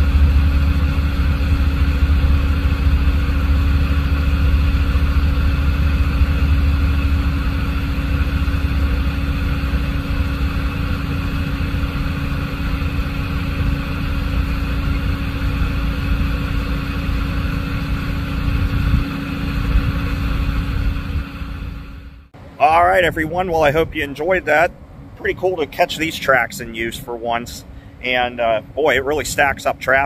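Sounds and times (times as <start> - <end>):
vehicle engines idling: 0.0 - 30.0.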